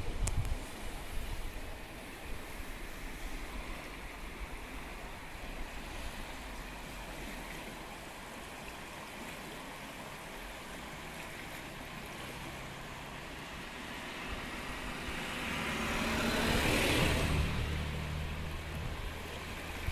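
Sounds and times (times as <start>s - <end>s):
river water rushing: 0.0s - 19.9s.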